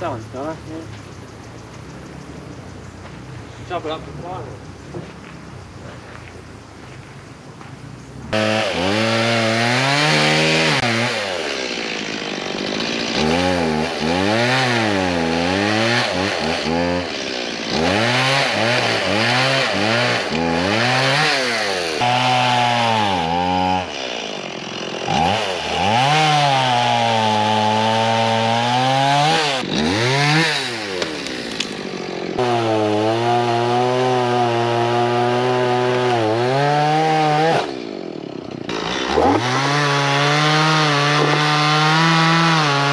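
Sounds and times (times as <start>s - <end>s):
chainsaw cutting wood: 8.3s - 42.9s.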